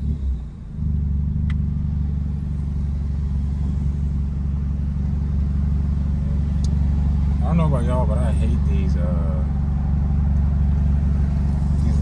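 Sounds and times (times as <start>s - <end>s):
car exhaust idling steadily: 0.0s - 12.0s.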